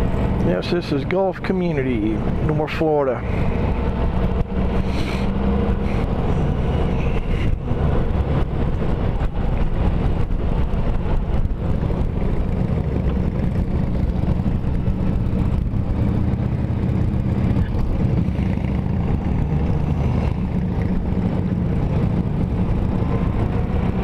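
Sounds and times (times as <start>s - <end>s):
motorcycle engine drone: 0.0s - 24.0s
wind and road noise: 0.0s - 24.0s
wind buffeting: 3.2s - 24.0s.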